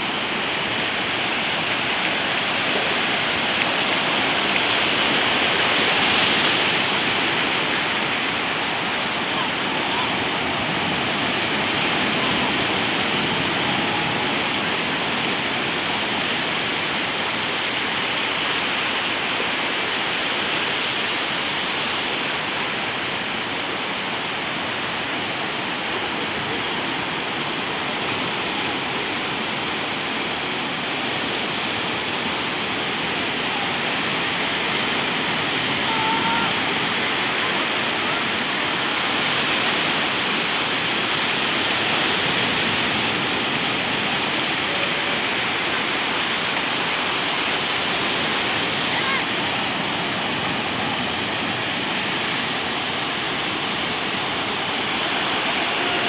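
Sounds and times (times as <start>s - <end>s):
sea waves washing on sandy shore: 0.0s - 56.0s.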